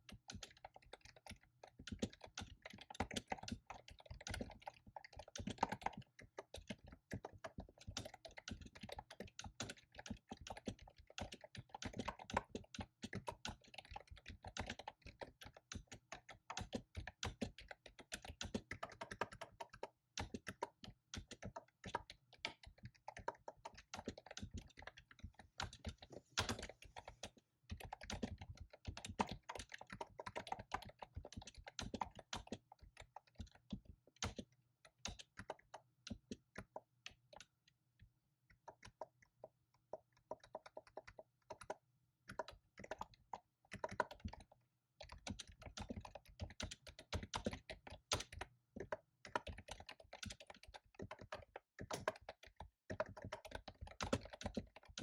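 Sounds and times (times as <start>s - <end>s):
fast typing on keyboard: 0.0s - 55.0s.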